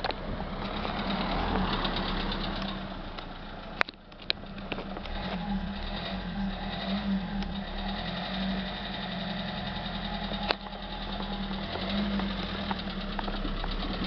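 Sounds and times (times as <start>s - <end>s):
diesel engine clacking idle: 0.0s - 5.8s, 6.4s - 14.0s.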